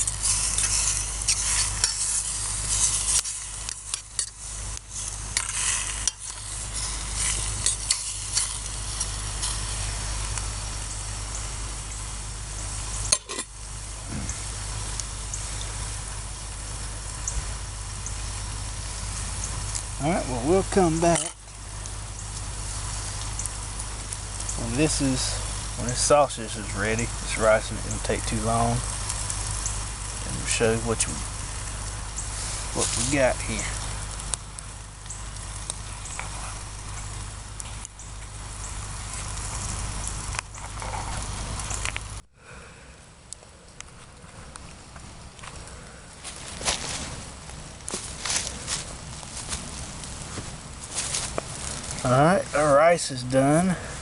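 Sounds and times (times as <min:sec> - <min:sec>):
sausage sizzling in a pan: 0:00.0 - 0:42.3, 0:44.8 - 0:54.0
campfire crackling: 0:00.0 - 0:54.0.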